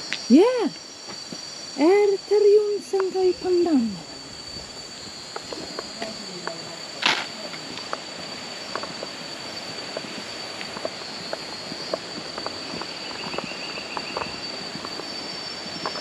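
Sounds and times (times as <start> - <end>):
crickets droning: 0.0 - 16.0.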